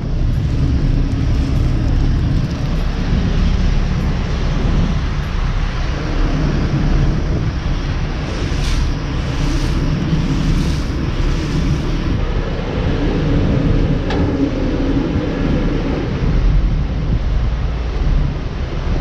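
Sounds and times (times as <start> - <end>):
vehicle engine running under load: 0.0 - 19.0.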